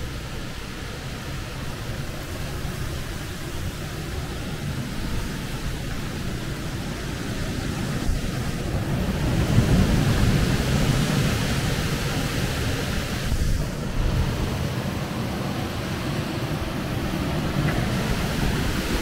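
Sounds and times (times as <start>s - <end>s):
wind and rain: 0.0s - 19.0s.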